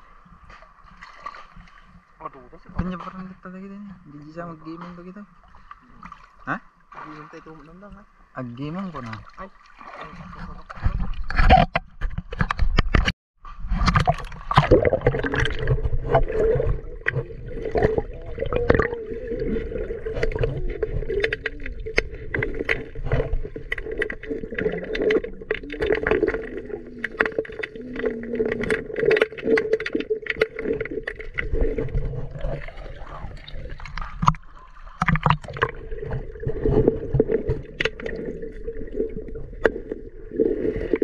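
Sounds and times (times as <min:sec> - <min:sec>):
bubbling and gurgling water: 0:05.0 - 0:41.0.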